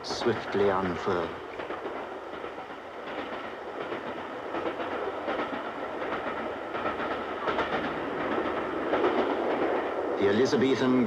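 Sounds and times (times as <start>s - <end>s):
train rumbling: 0.0s - 11.0s
wheels clicking over rail joints: 0.0s - 11.0s.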